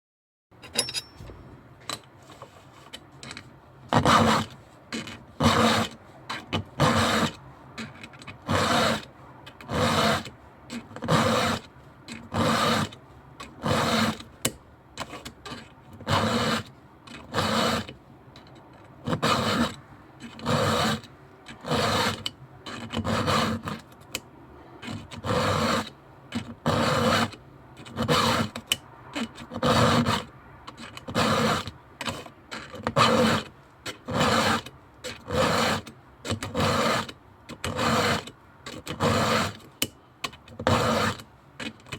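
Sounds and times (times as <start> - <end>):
file rasping on chainsaw chain: 3.9 - 24.2, 24.8 - 41.9.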